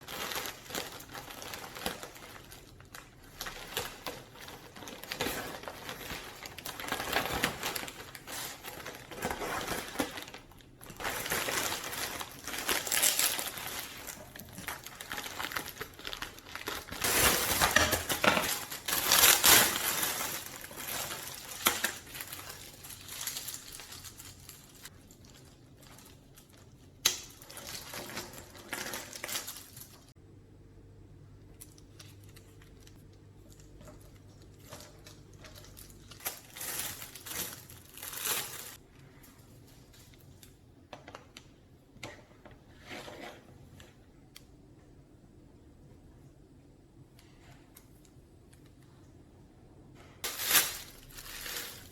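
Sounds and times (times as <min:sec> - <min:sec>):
packaging crinkling and rustling: 0:00.0 - 0:30.2, 0:31.6 - 0:41.4, 0:50.2 - 0:51.9.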